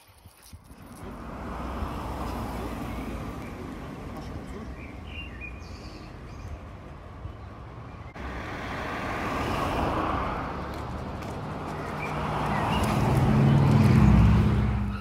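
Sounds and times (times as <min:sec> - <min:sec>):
vehicle engine hum approaching: 0:00.5 - 0:15.0
car passing: 0:00.7 - 0:15.0.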